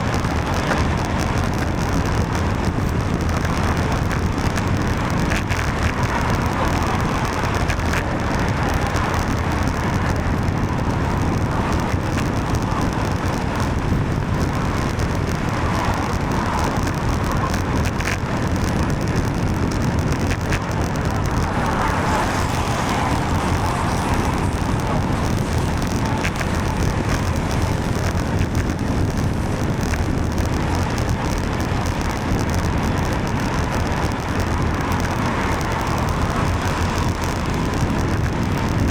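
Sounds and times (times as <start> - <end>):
car traffic on wet road: 0.0 - 38.9
wind rushing over microphone: 0.0 - 38.9.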